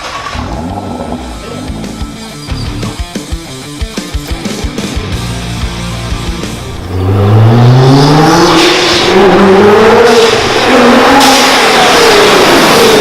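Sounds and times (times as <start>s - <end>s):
car engine revving: 0.0s - 3.0s, 5.2s - 13.0s.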